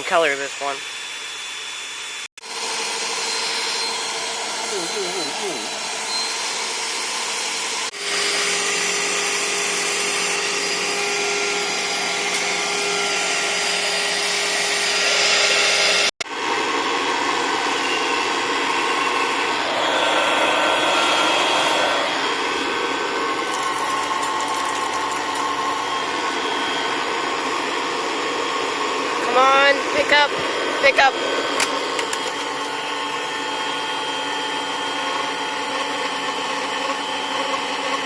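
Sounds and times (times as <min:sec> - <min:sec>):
second vacuum motor whine: 0:00.0 - 0:38.0
vacuum cleaner motor whine: 0:00.0 - 0:38.0.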